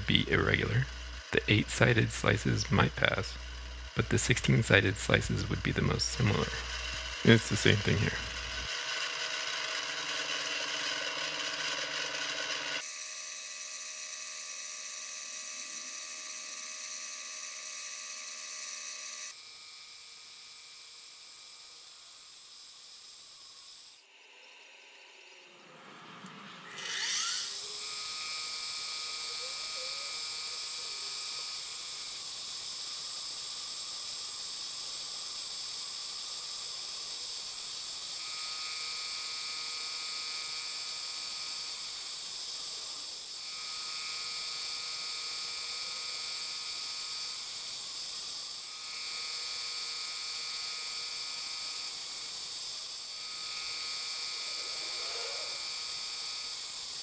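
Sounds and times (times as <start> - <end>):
milling machine spindle whine: 0.0 - 13.0, 21.6 - 57.0.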